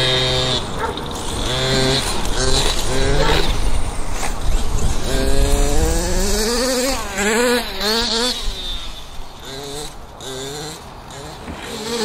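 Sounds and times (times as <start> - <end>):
toy truck motors whining: 0.0 - 12.0.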